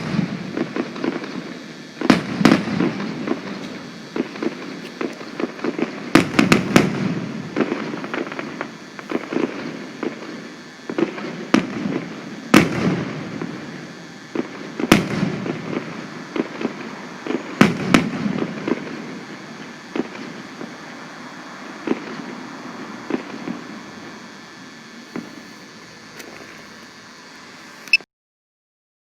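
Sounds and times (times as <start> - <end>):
firework bangs: 0.0 - 25.8
fireworks crackling and popping: 0.0 - 27.9.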